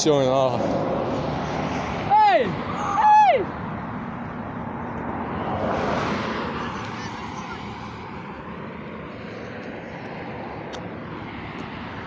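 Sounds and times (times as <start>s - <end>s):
vehicle passing on highway: 0.0s - 12.0s.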